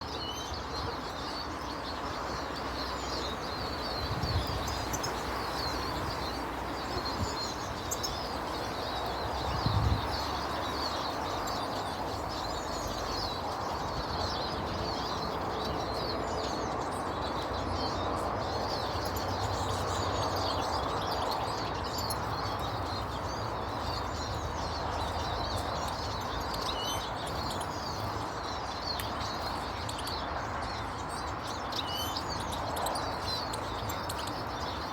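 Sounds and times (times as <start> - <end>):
small birds chirping and twittering: 0.0 - 34.9.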